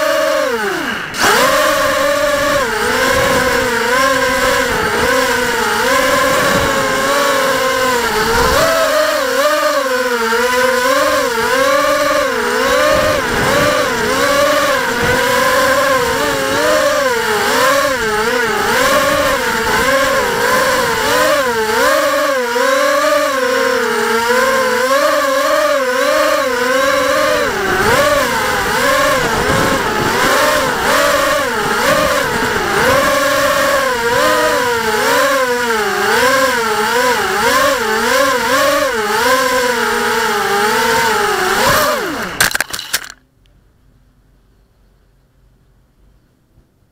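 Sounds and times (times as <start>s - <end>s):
drone propellers buzzing: 0.0s - 43.2s.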